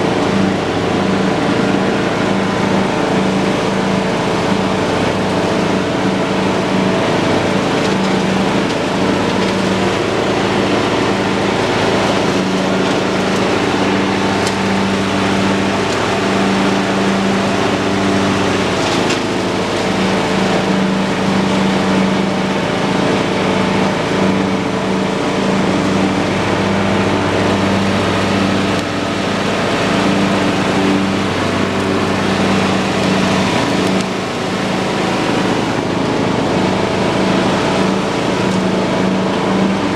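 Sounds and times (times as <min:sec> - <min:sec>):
lawn tractor engine mowing: 0:00.0 - 0:39.9.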